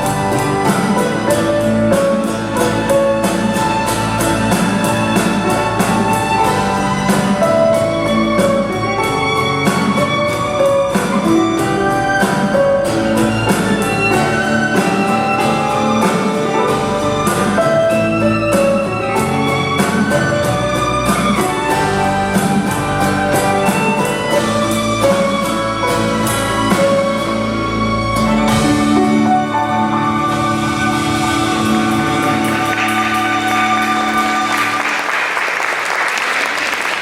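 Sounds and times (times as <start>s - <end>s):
rock-pop band playing instrumental: 0.0s - 35.4s
bowed string instrument: 0.0s - 35.8s.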